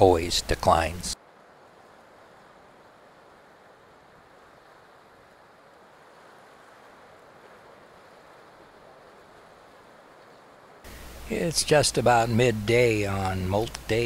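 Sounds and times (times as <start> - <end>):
faint ocean surf: 0.0 - 14.0.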